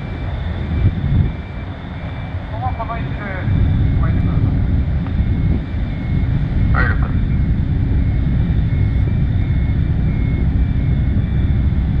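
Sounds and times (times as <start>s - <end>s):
engine low rumble: 0.0s - 12.0s
faint machinery whine: 0.0s - 12.0s.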